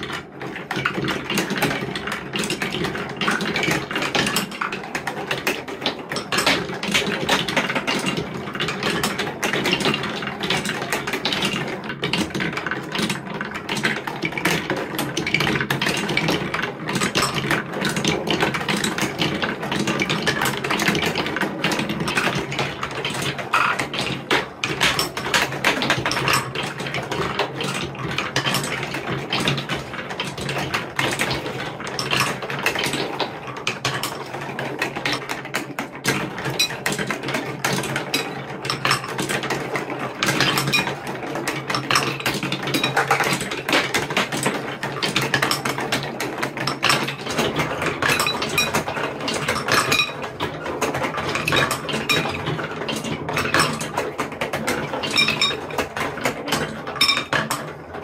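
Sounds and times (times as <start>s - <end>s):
marbles clicking and knocking: 0.0s - 58.0s
marbles rolling on track: 0.0s - 58.0s.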